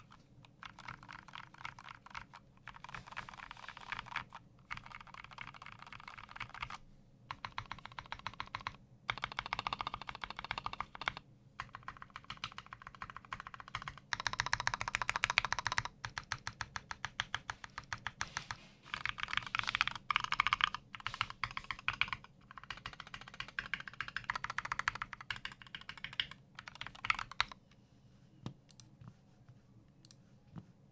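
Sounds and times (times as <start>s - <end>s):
fast typing on mechanical keyboard: 0.0s - 27.6s.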